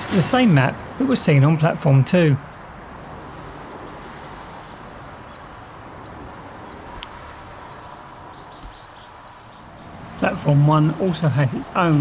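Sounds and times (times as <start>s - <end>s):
road traffic hum: 0.0s - 12.0s
small birds chirping: 2.4s - 12.0s.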